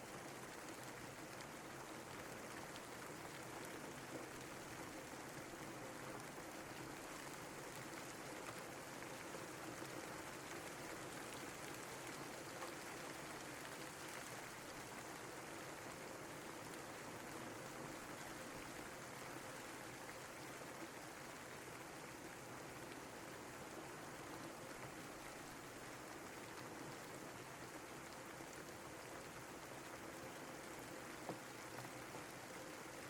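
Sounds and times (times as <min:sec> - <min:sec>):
steady rain pattering: 0:00.0 - 0:33.0.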